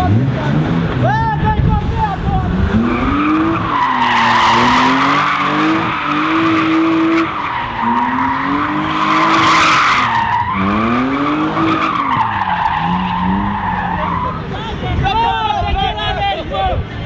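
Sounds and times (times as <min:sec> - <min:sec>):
car engine revving: 0:00.0 - 0:15.1
tyres squealing on asphalt: 0:00.0 - 0:16.6.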